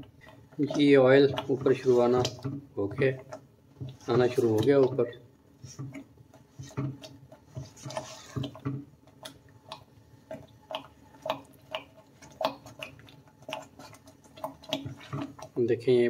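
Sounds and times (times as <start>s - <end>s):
wet popping bubbles: 0.0s - 15.7s
thick mixture bubbling in a pan: 0.0s - 16.0s.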